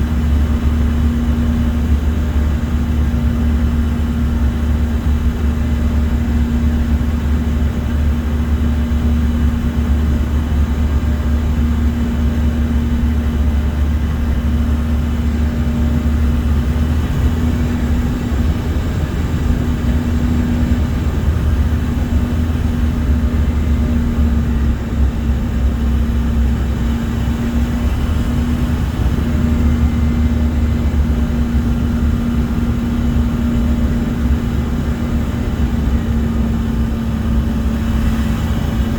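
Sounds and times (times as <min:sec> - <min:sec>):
airliner cabin engine rumble: 0:00.0 - 0:38.9
steady hum: 0:00.0 - 0:38.9.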